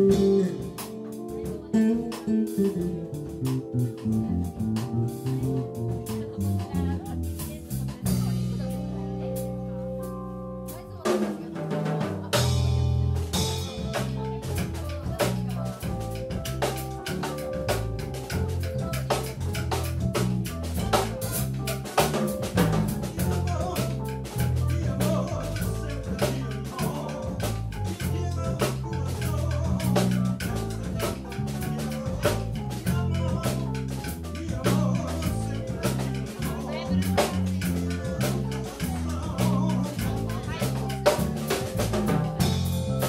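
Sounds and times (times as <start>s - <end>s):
drum and cymbal hits: 0.0s - 9.5s, 10.7s - 43.0s
bass line: 0.0s - 43.0s
keyboard: 0.0s - 43.0s.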